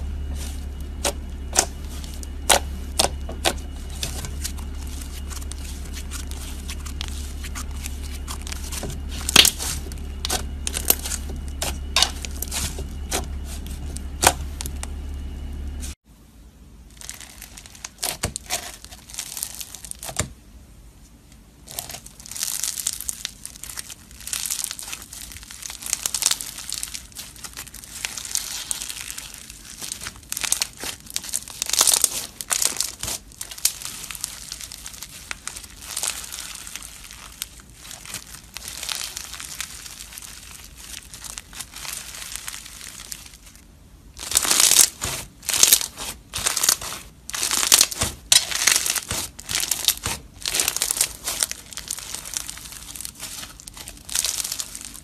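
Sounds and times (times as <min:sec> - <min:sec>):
foam slime crackling: 0:00.0 - 0:16.0, 0:16.9 - 0:20.3, 0:21.6 - 0:55.0
slime crunching: 0:00.0 - 0:16.0, 0:16.9 - 0:20.3, 0:21.6 - 0:55.0.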